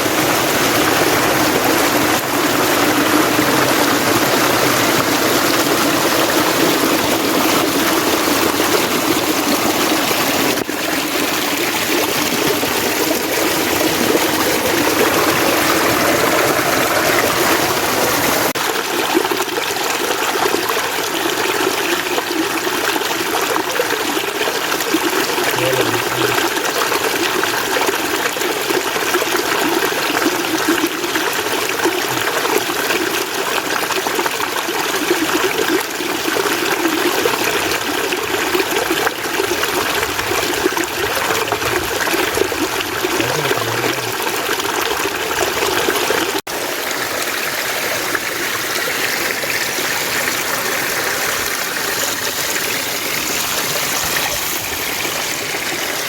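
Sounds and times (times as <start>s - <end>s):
mountain water running: 0.0s - 56.0s.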